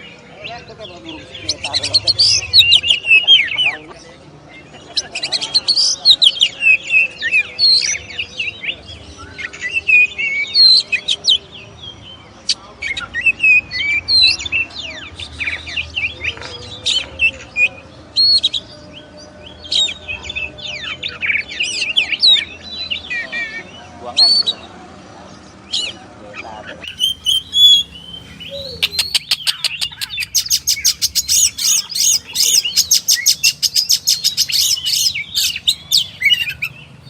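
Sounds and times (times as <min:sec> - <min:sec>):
magpie-robin singing: 0:00.0 - 0:24.7, 0:26.6 - 0:37.0.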